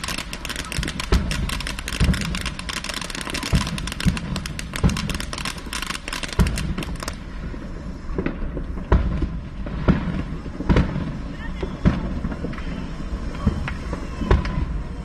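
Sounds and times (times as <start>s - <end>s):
fireworks booms: 0.0s - 15.0s
fireworks crackling bangs: 0.0s - 15.0s.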